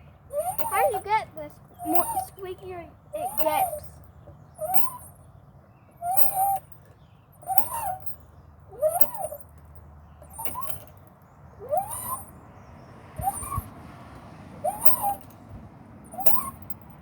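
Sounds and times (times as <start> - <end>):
swing squeaking: 0.0 - 17.0.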